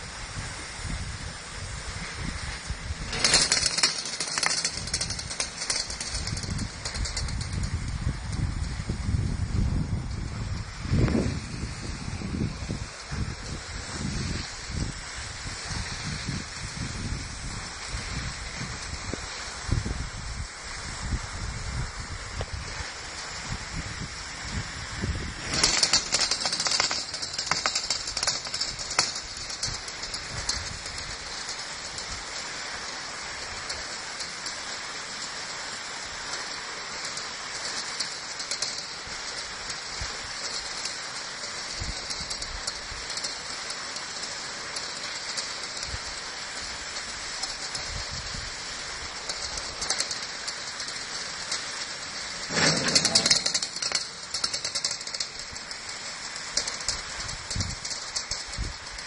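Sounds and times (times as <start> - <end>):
skis scraping on icy snow: 0.0 - 7.5, 10.9 - 21.1, 22.1 - 59.0.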